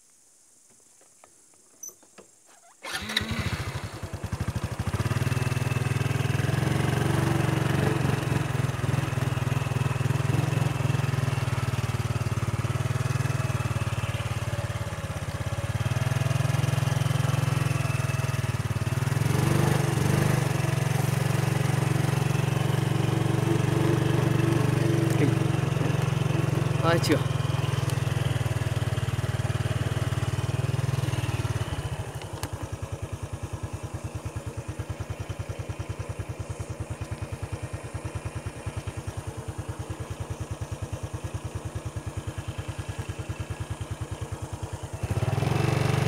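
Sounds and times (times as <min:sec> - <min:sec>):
motorcycle engine starting and running: 0:01.0 - 0:46.0.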